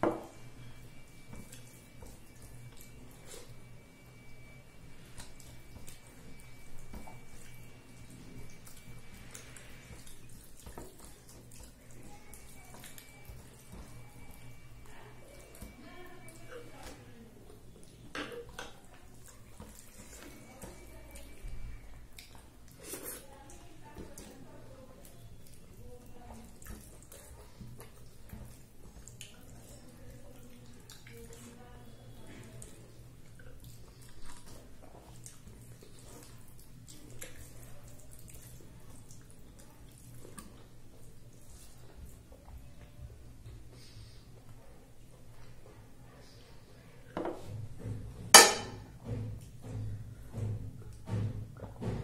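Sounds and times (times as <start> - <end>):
fingers mixing wet food: 0.0 - 47.5
low steady hum: 0.0 - 51.8
chewing: 1.0 - 3.8, 5.0 - 46.4.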